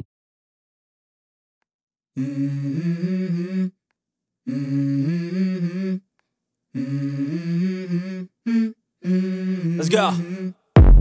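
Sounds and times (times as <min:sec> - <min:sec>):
hummed vocal melody: 0:02.2 - 0:11.0.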